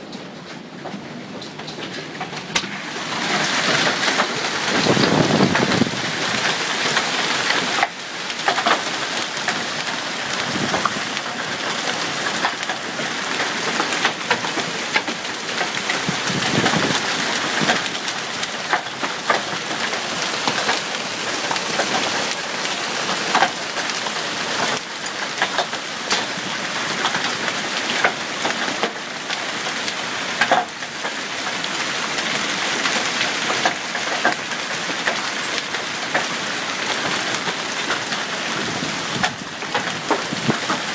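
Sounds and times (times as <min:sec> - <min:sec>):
hail and rain falling: 0:00.0 - 0:40.9
hailstones ticking on ground: 0:00.0 - 0:40.9.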